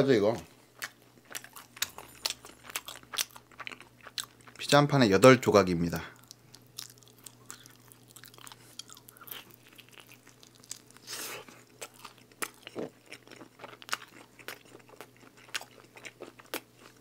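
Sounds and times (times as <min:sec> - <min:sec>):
wet chewing: 0:00.8 - 0:04.6, 0:06.2 - 0:17.0.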